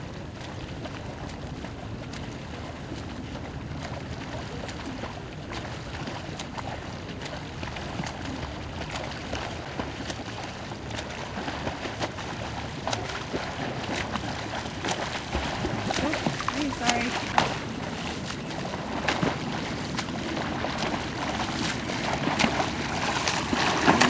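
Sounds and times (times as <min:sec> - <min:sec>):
rumble of wind and water: 0:00.0 - 0:24.0
water sloshing around a kayak: 0:00.0 - 0:24.0
small sharp splashes: 0:03.8 - 0:24.0.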